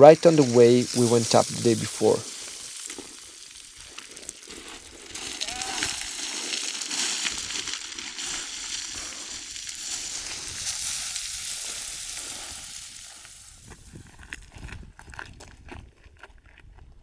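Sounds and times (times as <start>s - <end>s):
boots sliding on loose scree: 0.0s - 13.9s.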